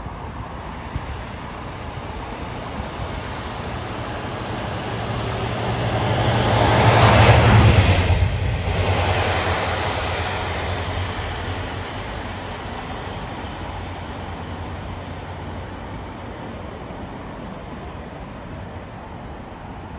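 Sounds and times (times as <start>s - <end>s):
train rumbling past: 0.0s - 19.9s.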